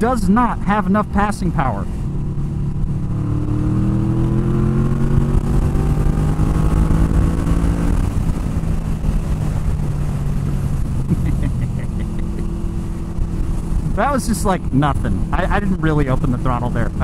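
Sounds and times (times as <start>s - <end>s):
motorcycle engine accelerating: 2.0s - 17.0s.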